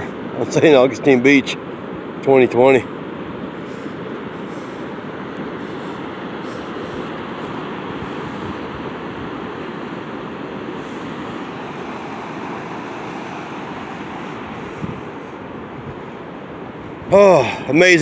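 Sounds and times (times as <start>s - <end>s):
surf washing onto beach: 0.0s - 18.0s
wind on microphone: 2.9s - 18.0s.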